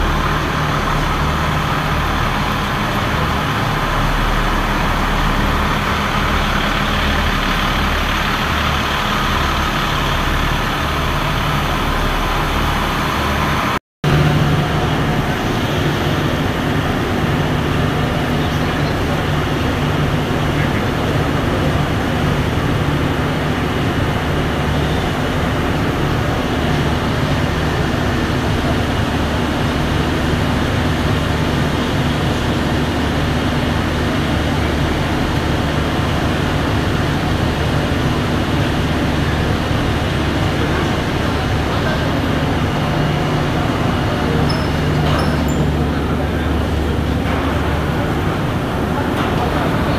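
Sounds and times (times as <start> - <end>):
machinery drone: 0.0 - 49.9.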